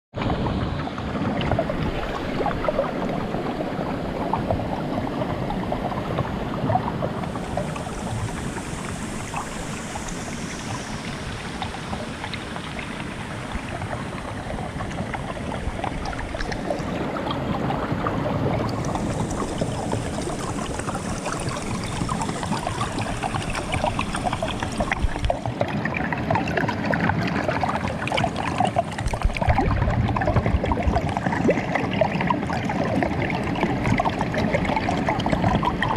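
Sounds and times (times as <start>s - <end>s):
stream water flowing under ice: 0.2s - 35.9s.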